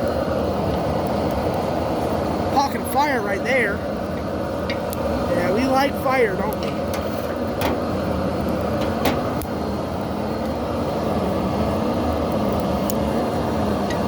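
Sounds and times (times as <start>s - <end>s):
fire crackles: 0.0s - 14.0s
forge fire roaring: 0.0s - 14.0s.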